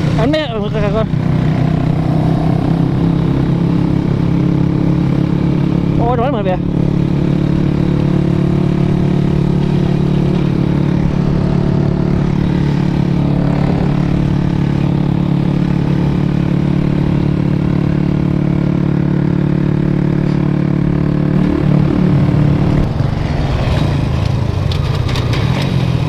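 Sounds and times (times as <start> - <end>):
motorcycle engine running steadily: 0.0 - 26.0.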